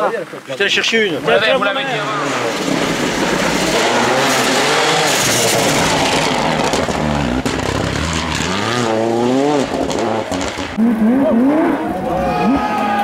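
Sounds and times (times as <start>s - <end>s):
tyre and road noise: 0.0s - 13.0s
rally car engine revving: 1.3s - 13.0s.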